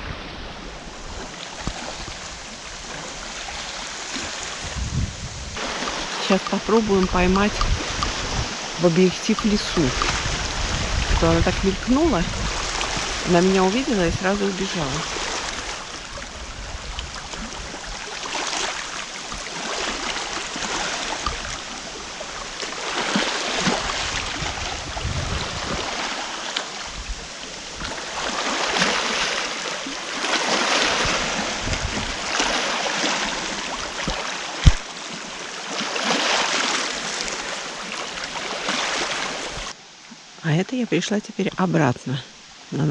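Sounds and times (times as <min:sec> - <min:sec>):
waves lapping against shore: 0:00.0 - 0:42.9.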